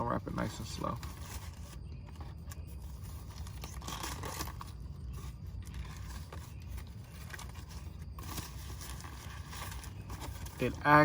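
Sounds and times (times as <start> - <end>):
paper wrapper crinkling: 0.0 - 11.0.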